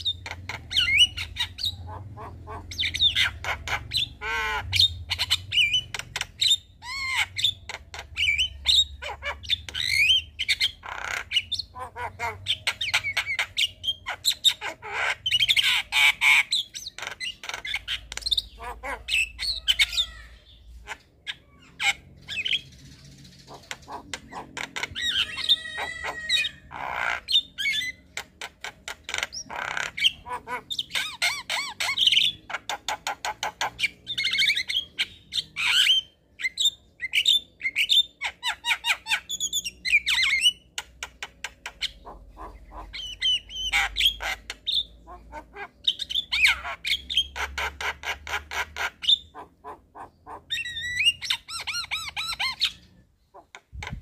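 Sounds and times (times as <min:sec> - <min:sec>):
birds chattering and squawking: 0:00.0 - 0:54.0.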